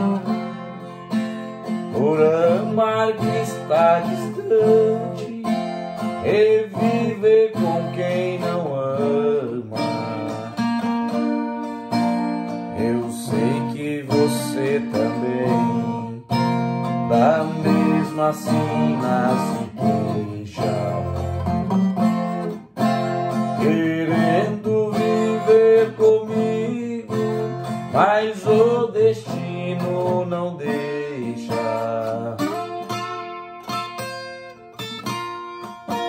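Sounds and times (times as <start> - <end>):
classical guitar fingerpicked: 0.0 - 36.0.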